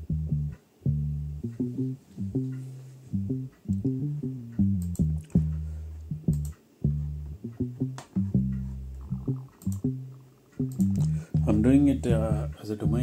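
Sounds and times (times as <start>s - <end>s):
low plucked string notes: 0.0s - 13.0s.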